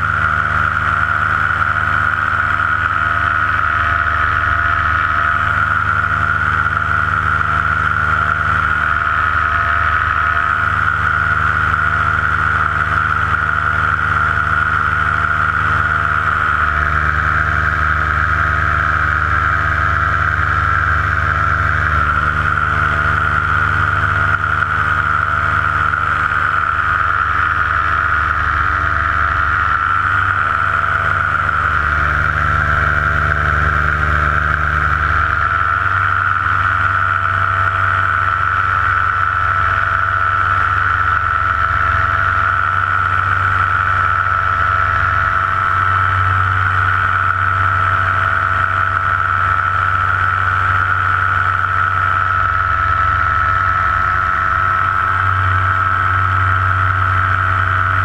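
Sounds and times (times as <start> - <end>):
paramotor engine droning: 0.0 - 58.0.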